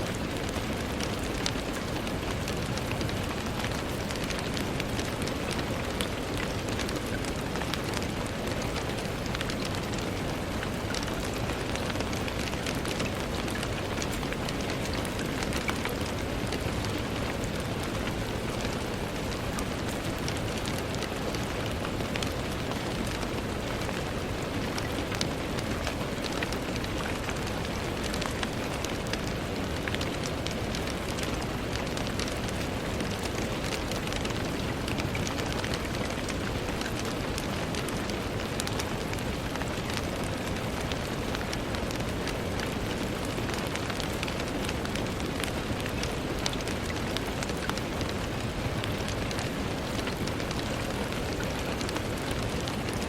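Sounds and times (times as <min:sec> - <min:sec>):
rain on a window pane: 0:00.0 - 0:53.0.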